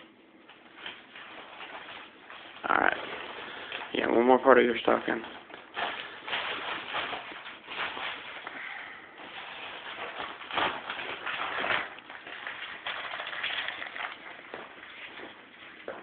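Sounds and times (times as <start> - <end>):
paper rustling and crinkling: 0.5 - 16.0.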